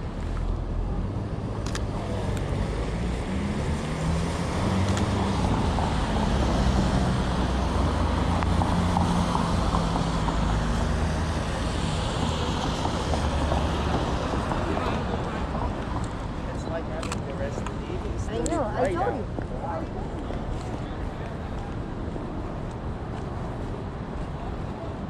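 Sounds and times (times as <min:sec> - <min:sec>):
vehicles driving by: 0:00.0 - 0:25.0.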